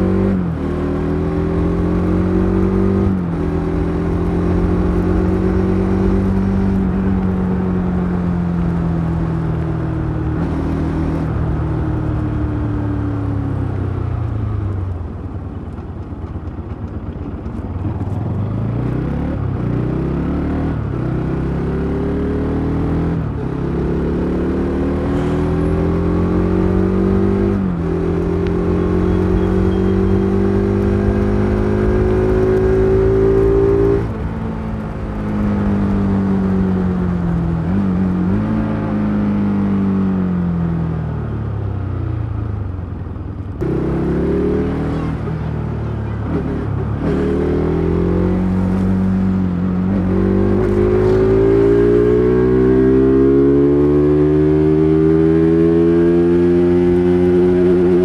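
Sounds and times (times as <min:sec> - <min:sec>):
motorcycle engine revving: 0:00.0 - 0:14.6, 0:16.8 - 0:41.0, 0:43.6 - 0:58.0.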